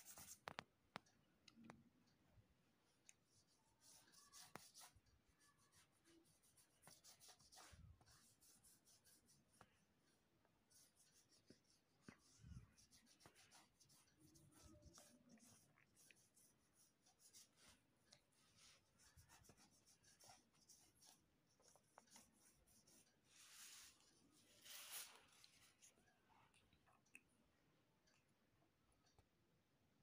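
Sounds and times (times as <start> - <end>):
paintbrush strokes on paper: 0.0 - 0.6, 2.9 - 26.5.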